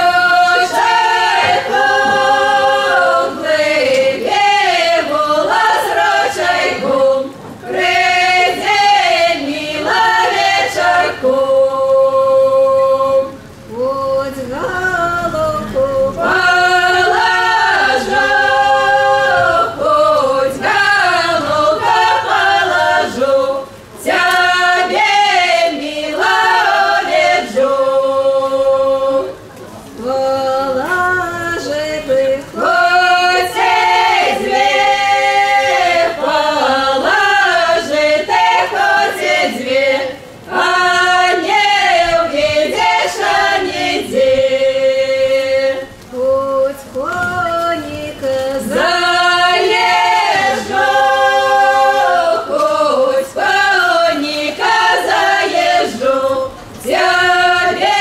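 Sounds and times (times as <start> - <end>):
vocal ensemble singing: 0.0 - 58.0.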